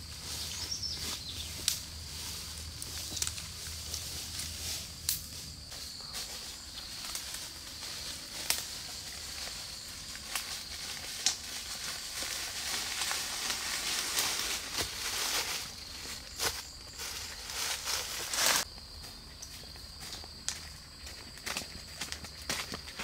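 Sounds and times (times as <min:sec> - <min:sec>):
footsteps crunching through dry leaves: 0:00.0 - 0:23.0
insects buzzing: 0:00.0 - 0:23.0.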